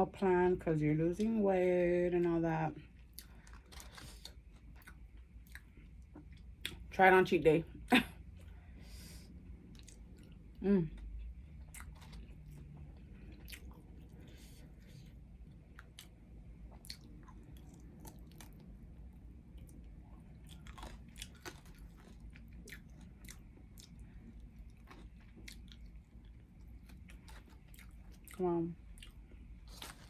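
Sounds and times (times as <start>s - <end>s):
person chewing food: 2.9s - 6.8s, 8.4s - 30.0s.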